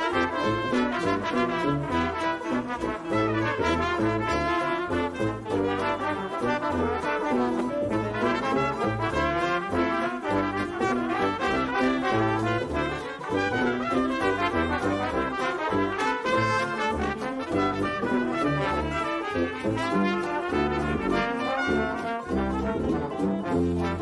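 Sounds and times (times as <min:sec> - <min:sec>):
brass background music: 0:00.0 - 0:24.0
moving bass line: 0:00.3 - 0:24.0.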